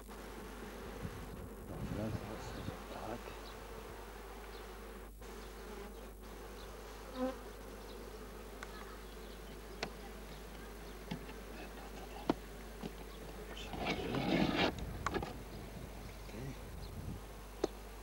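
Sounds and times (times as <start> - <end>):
bee colony humming: 0.0 - 18.0
single bee buzzing close: 0.0 - 18.0.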